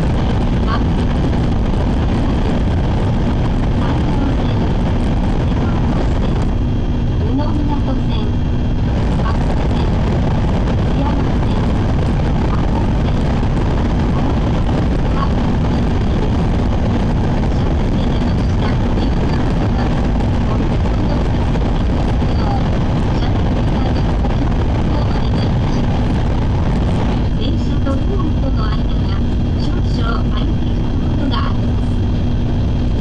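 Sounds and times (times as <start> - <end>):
constant low hum: 0.0 - 33.0.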